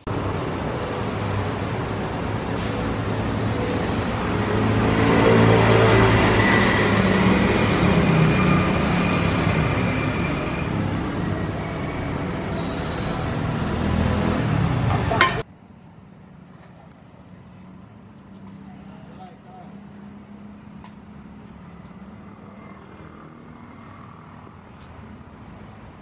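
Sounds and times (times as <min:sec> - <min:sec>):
engine running with whine: 0:00.0 - 0:15.4, 0:18.4 - 0:26.0.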